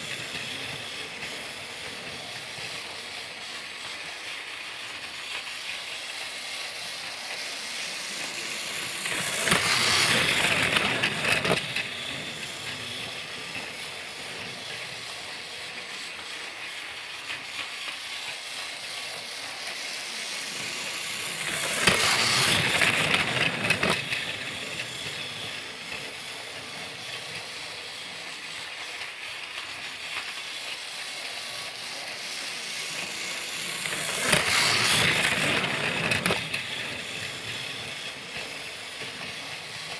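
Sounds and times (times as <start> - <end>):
toy train whirring and clicking: 0.0 - 39.9.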